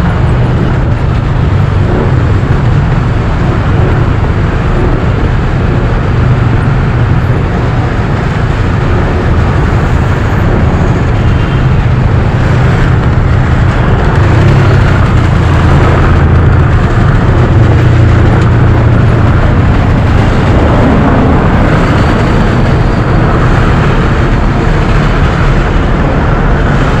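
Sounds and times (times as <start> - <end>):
motorcycle engine: 0.0 - 27.0
road noise: 0.0 - 27.0
wind noise: 0.0 - 27.0.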